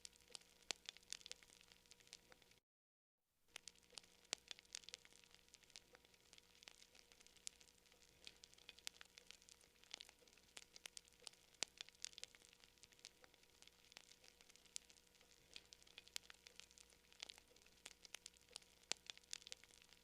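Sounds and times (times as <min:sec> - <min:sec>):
campfire crackling: 0:00.0 - 0:02.6, 0:03.6 - 0:20.0.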